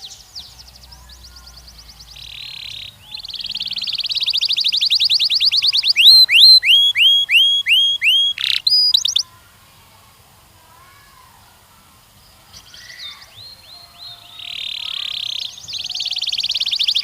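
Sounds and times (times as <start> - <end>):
canary singing: 0.0 - 9.3, 12.5 - 17.0.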